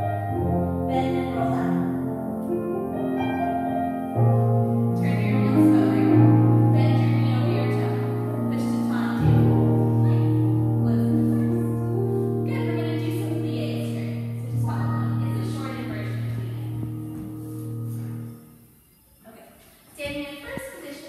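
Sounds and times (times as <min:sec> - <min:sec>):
piano background music: 0:00.0 - 0:19.2.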